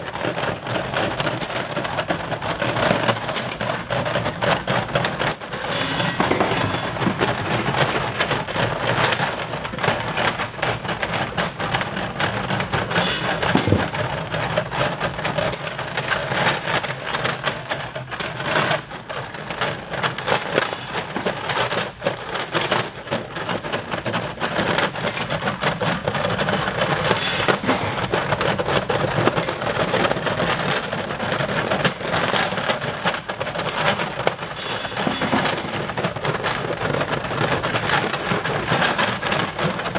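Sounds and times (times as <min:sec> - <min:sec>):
conveyor running: 0:00.0 - 0:39.9
metal parts rattling on conveyor: 0:00.0 - 0:39.9.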